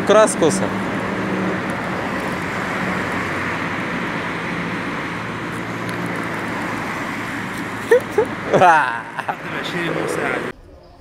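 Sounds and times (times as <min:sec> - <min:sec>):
low engine hum: 0:00.0 - 0:10.6.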